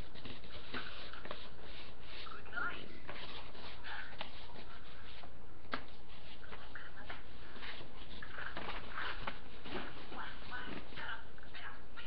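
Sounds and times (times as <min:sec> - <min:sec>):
paper rustling: 0:00.0 - 0:11.1.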